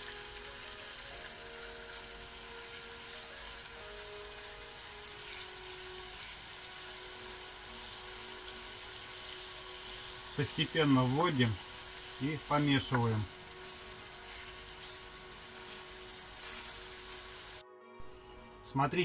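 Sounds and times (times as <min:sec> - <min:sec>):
meat sizzling in hot oil: 0:00.0 - 0:17.6.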